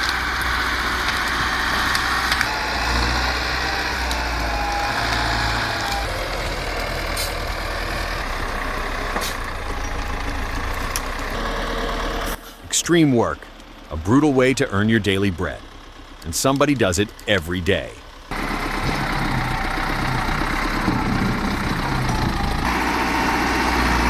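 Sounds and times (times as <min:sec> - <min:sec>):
truck diesel engine under load: 0:00.0 - 0:24.0.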